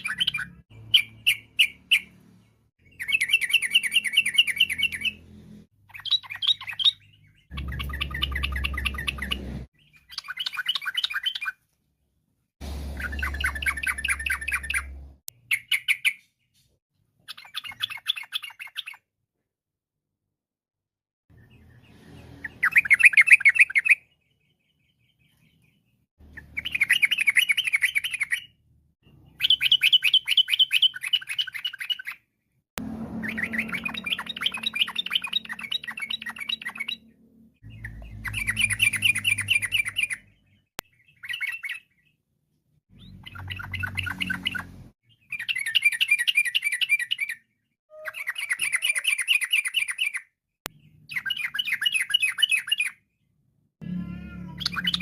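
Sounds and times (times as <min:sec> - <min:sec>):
bird singing: 0:00.0 - 0:11.6, 0:13.0 - 0:16.6, 0:21.3 - 0:32.3, 0:33.0 - 0:42.2, 0:42.9 - 0:53.1, 0:53.8 - 0:55.0.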